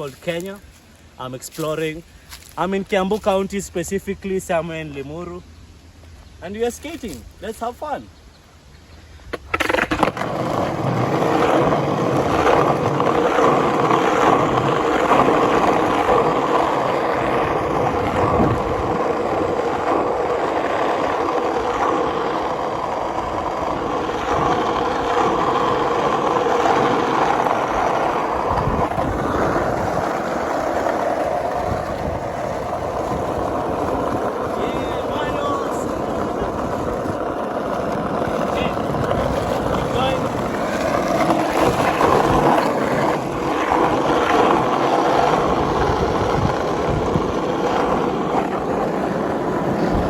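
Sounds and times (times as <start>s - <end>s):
skateboard wheels rolling on road: 0.0s - 50.0s
skateboard clacks: 9.3s - 50.0s.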